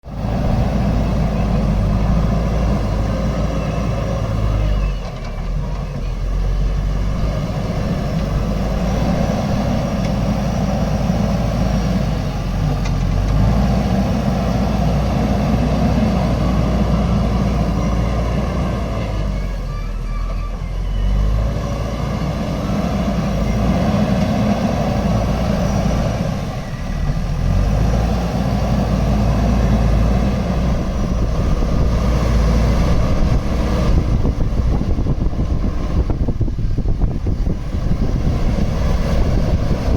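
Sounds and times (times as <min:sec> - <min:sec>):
backhoe diesel engine under load: 0:00.0 - 0:39.9.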